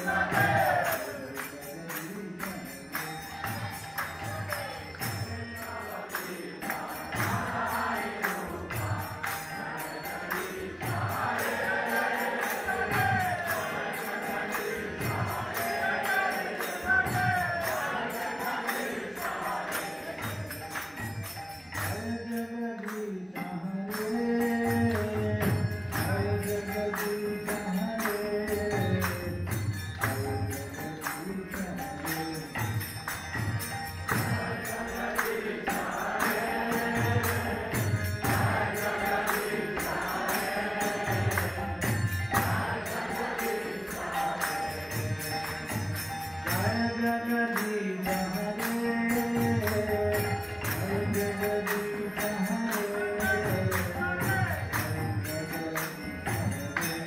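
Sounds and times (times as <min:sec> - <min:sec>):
hand cymbals clinking: 0:00.0 - 0:57.0
harmonium drone: 0:00.0 - 0:57.0.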